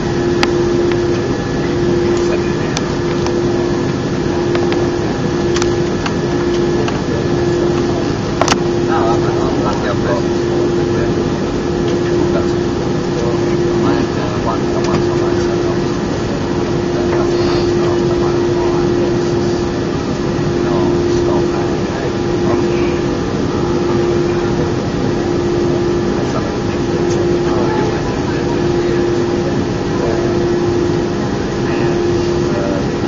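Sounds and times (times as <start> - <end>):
airplane cabin engine drone: 0.0 - 33.0
faint passenger voices: 0.0 - 33.0.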